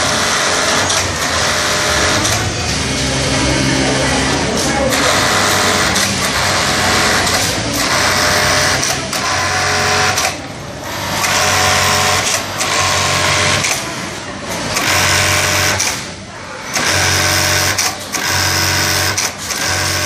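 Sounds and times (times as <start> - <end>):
industrial sewing machines running: 0.0 - 20.0.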